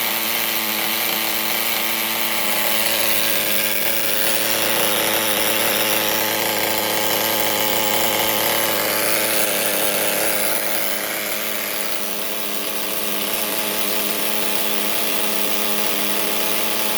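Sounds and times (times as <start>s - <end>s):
two-stroke nitro engine running: 0.0s - 16.9s.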